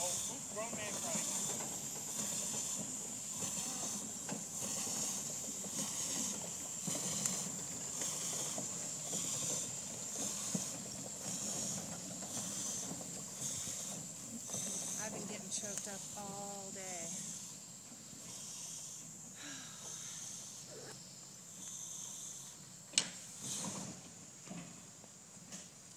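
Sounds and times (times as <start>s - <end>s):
steam locomotive hissing rhythmically: 0.0s - 25.9s.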